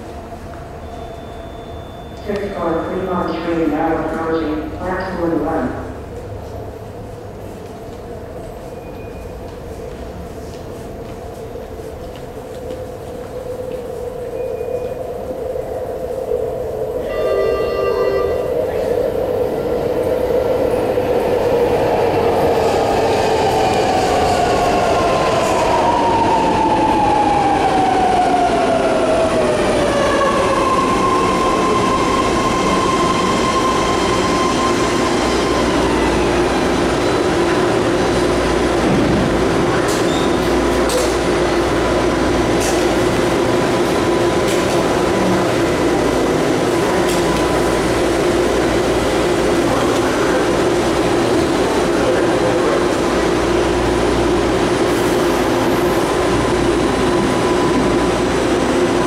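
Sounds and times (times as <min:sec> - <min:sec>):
train standing hum: 0:00.0 - 0:59.0.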